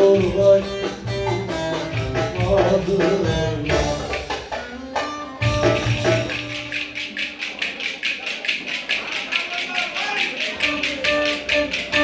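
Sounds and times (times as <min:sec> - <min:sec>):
fast hand percussion beat: 0:00.0 - 0:12.0
folk dance music: 0:00.0 - 0:12.0.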